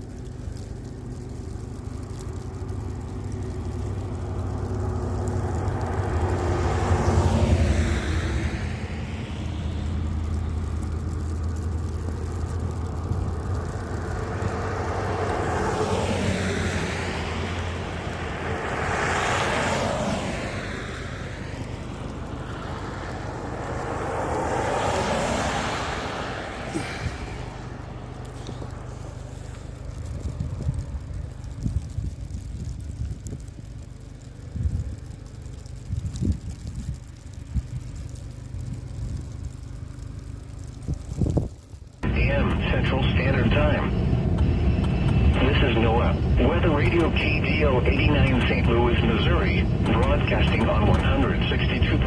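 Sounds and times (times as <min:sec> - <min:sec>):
car driving on road: 0:00.0 - 0:52.0
passing vehicles: 0:00.0 - 0:52.0.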